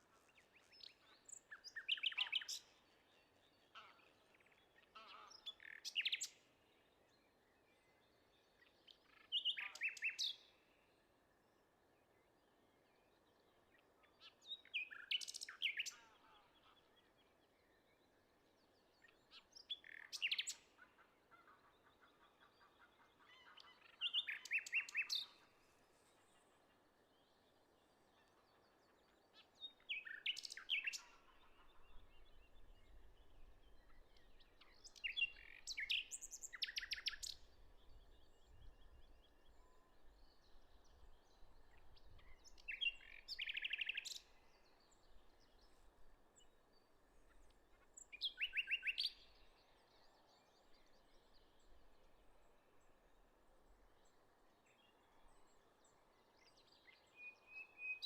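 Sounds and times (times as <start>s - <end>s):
songbird singing with trill: 0.0s - 10.7s, 12.9s - 20.8s, 23.4s - 25.5s, 27.1s - 53.1s, 53.7s - 58.0s.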